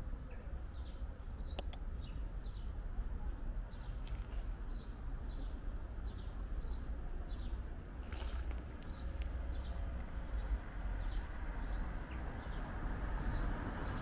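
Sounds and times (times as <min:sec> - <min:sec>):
steady low rumble: 0:00.0 - 0:14.0
bird chirping: 0:00.3 - 0:02.8, 0:03.7 - 0:14.0.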